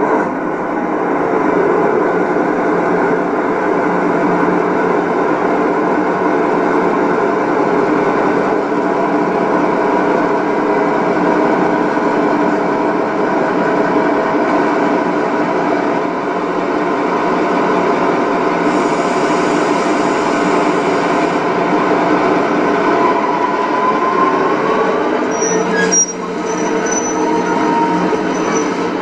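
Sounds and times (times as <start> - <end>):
model trains running: 0.0 - 29.0.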